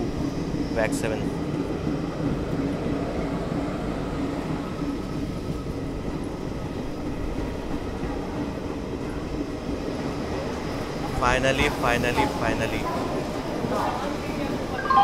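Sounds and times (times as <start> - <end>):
train wheels rumbling on rails: 0.0 - 14.8.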